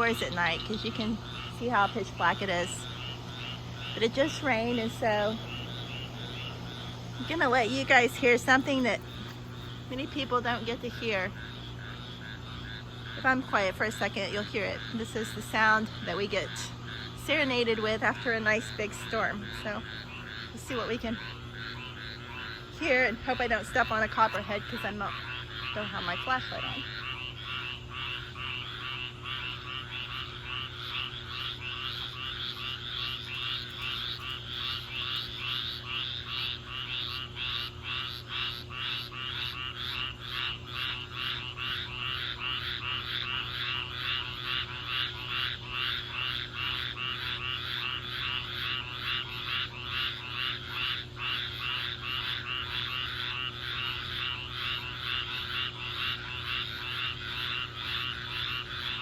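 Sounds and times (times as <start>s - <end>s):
chorus of frogs calling: 0.0s - 59.0s.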